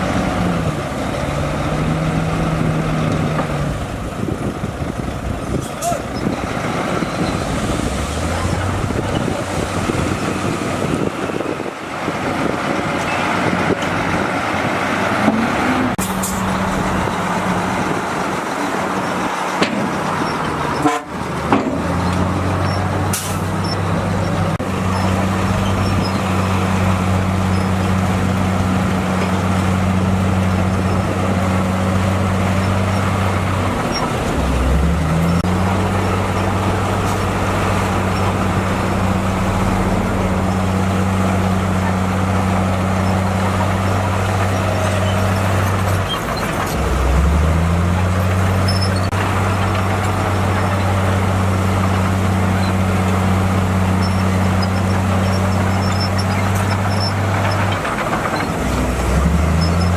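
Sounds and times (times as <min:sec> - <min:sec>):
heavy machinery diesel engine drone: 0:00.0 - 0:59.9.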